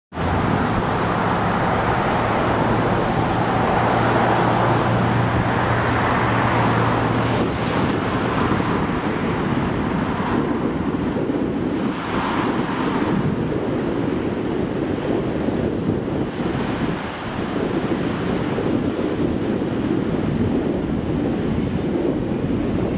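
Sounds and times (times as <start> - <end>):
low engine hum: 0.1 - 22.9
passing road traffic: 0.1 - 22.9.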